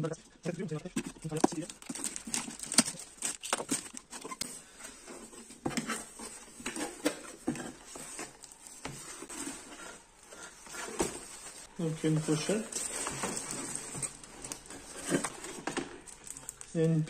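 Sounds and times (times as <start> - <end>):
plastic wrapping crinkling: 1.1 - 17.0.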